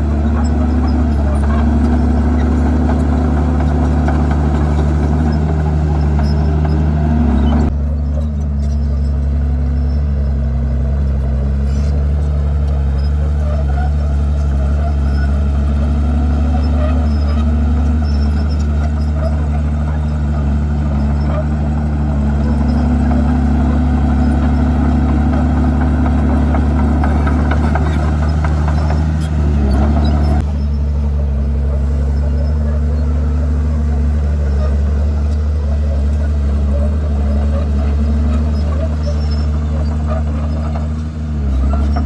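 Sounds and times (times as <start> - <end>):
bulldozer diesel engine running: 0.0 - 42.0.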